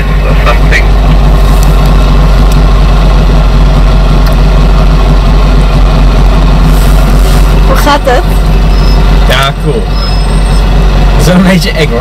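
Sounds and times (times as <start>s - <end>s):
car engine idling loudly: 0.0s - 12.0s.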